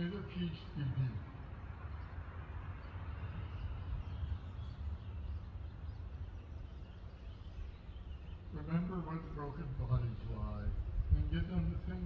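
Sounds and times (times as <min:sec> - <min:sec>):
faint bird calls: 0:00.0 - 0:12.0
steady low rumble: 0:00.0 - 0:12.0.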